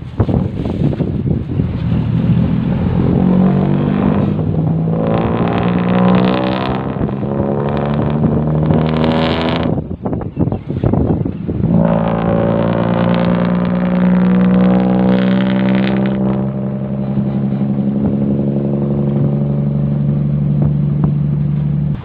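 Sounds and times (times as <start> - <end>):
diesel truck engine droning: 1.1 - 10.3, 10.9 - 22.0.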